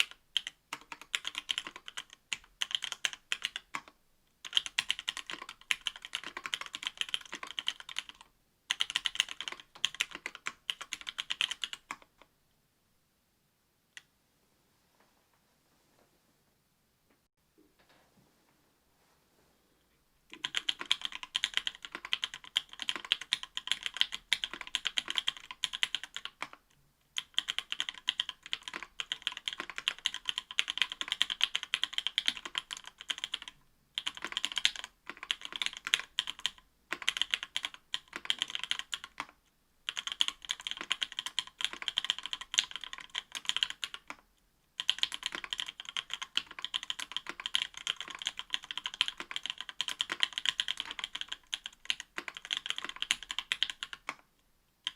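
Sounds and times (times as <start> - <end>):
fast typing on mechanical keyboard: 0.0 - 12.2, 20.3 - 26.6, 27.2 - 44.2, 44.8 - 54.2.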